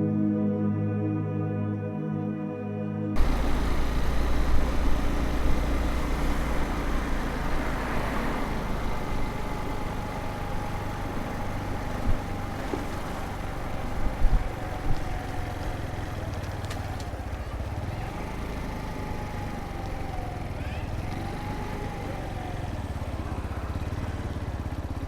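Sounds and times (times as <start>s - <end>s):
road traffic rumble: 3.2s - 25.0s
vehicle passing: 3.2s - 25.0s.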